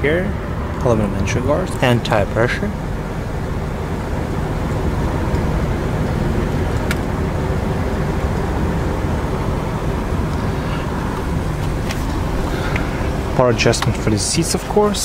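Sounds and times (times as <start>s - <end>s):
running vehicle hum: 0.0s - 15.0s.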